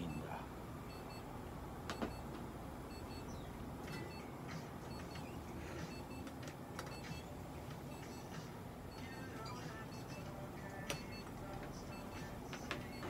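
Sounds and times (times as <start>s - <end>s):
short electronic beeps: 0.0s - 1.3s, 1.9s - 2.3s, 2.9s - 6.3s, 6.9s - 13.0s.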